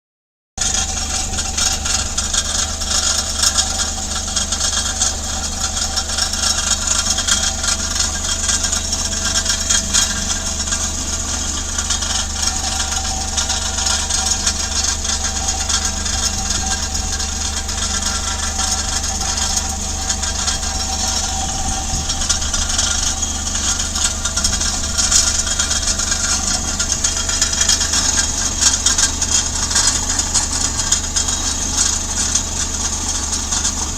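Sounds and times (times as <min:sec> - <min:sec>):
car engine with rattling exhaust: 0:00.6 - 0:33.9.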